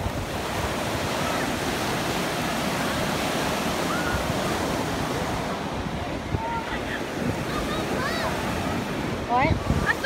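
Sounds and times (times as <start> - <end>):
ocean surf on shore: 0.0 - 10.0
wind buffeting microphone: 0.0 - 10.0.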